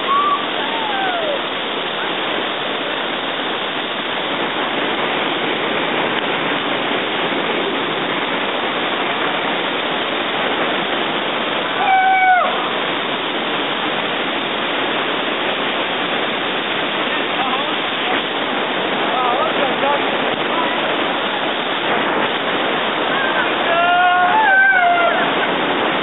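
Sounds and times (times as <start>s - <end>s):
river rapids rushing over rocks: 0.0s - 26.0s.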